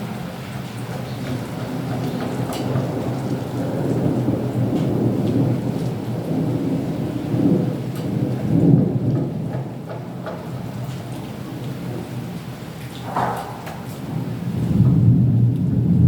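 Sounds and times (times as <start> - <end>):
raindrop ticks: 0.0 - 15.7
steady rain: 0.0 - 16.0
thunder rumbling: 0.0 - 16.0.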